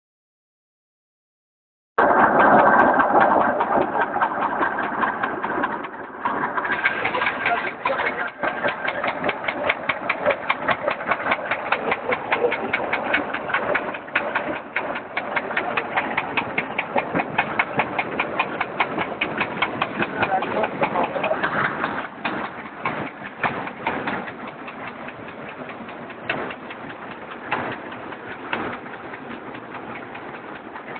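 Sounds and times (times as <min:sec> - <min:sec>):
concrete mixer running: 0:02.0 - 0:30.9
regular mechanical clatter: 0:02.0 - 0:30.9.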